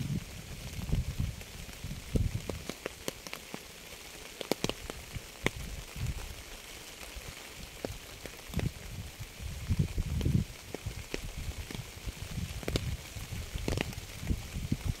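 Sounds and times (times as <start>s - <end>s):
rain falling steadily: 0.0s - 15.0s
raindrops ticking: 0.1s - 15.0s.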